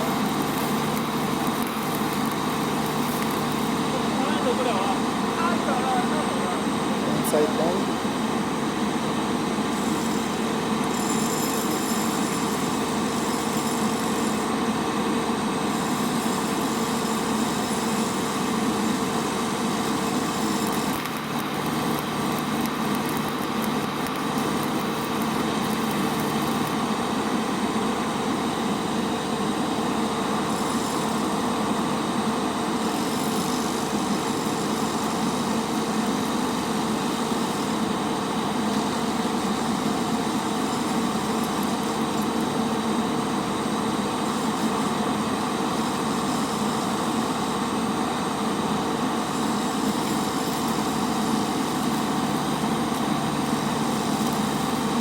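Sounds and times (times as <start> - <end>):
welding generator humming: 0.0 - 55.0.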